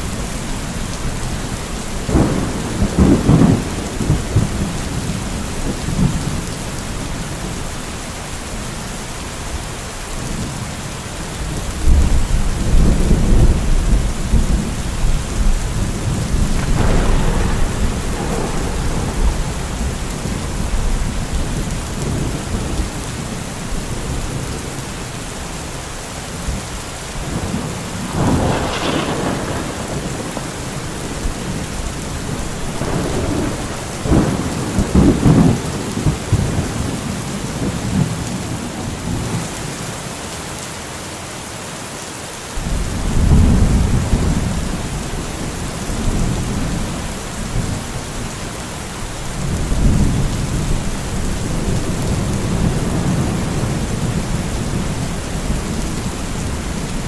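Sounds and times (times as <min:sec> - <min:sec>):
thunder rumbling and cracking: 0:00.0 - 0:07.6, 0:11.4 - 0:25.4, 0:27.2 - 0:39.5, 0:42.6 - 0:57.0
heavy rain: 0:00.0 - 0:57.0.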